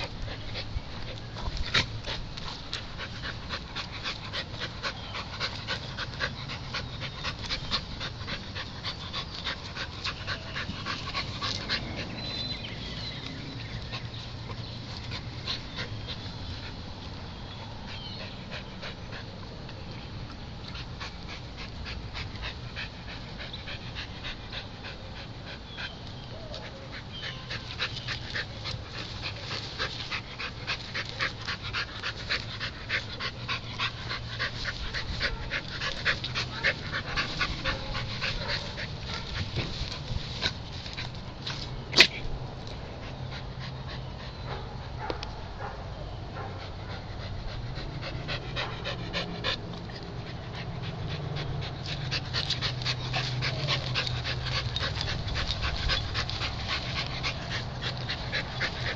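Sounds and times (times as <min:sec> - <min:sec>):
dog panting: 0:00.0 - 0:58.9.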